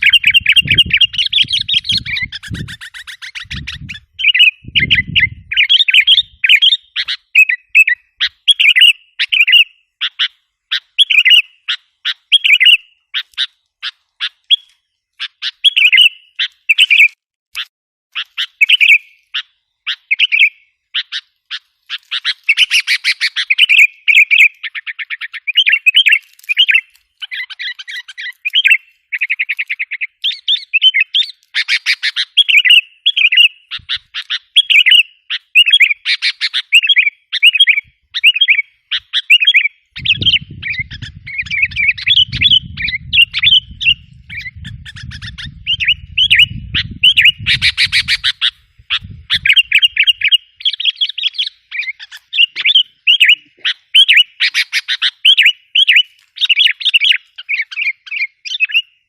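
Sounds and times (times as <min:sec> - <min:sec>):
bulbuls calling and chattering: 0:00.0 - 0:58.9.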